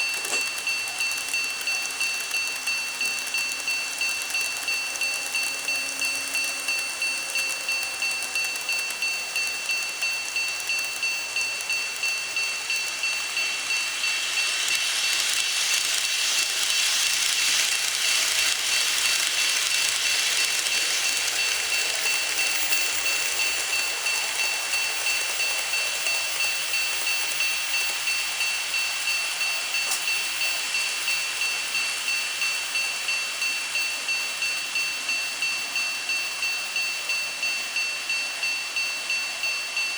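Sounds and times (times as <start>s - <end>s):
electronic crossing bell chime: 0.0s - 39.9s
model train rattling past: 0.0s - 39.9s.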